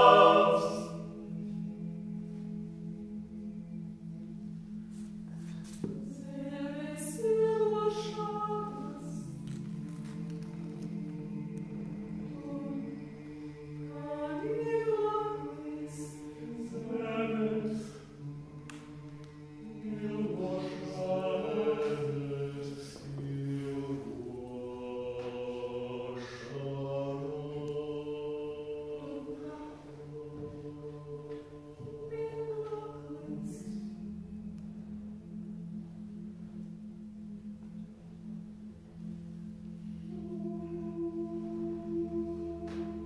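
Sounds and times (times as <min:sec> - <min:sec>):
choir singing a cappella: 0:00.0 - 0:43.0.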